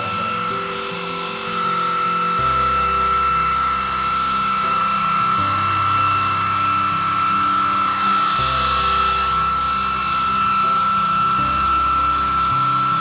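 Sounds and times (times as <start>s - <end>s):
background music with bass notes: 0.0s - 13.0s
hair dryer running: 0.0s - 13.0s.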